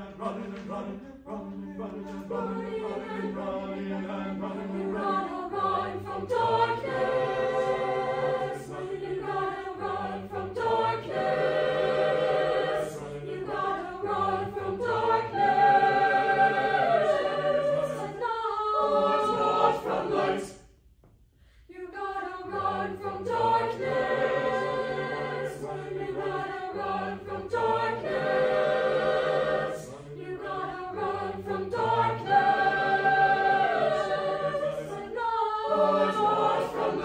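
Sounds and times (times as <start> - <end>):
choir singing a cappella: 0.0 - 20.9, 21.6 - 37.0.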